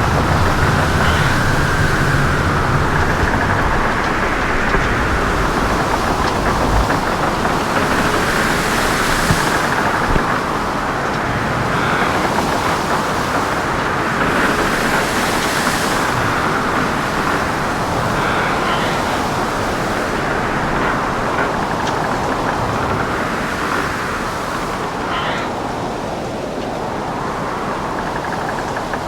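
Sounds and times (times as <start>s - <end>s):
rushing sea water: 0.0s - 29.0s
wind: 0.0s - 29.0s.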